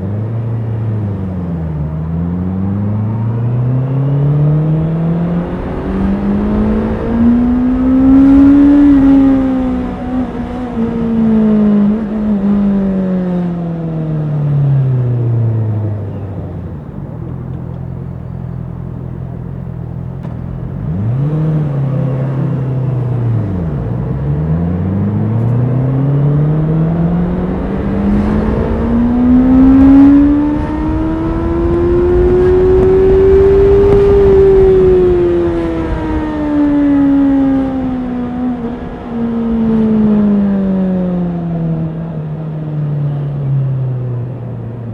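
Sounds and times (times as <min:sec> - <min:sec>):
motorcycle engine revving and idling: 0:00.0 - 0:44.9.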